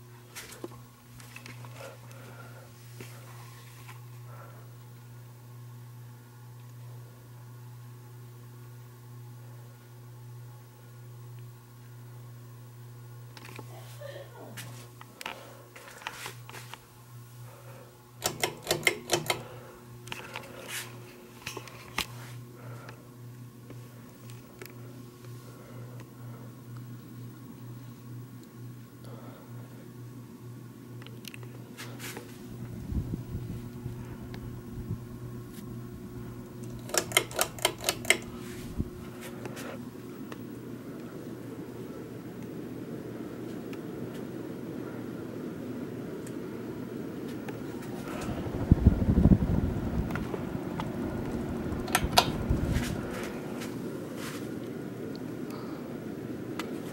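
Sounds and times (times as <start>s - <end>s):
ceiling fan motor humming: 0.0s - 56.9s.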